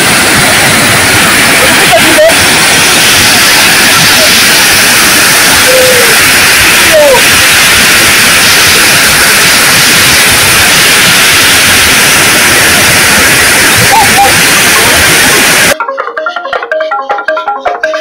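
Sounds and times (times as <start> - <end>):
white water rushing: 0.0 - 15.8.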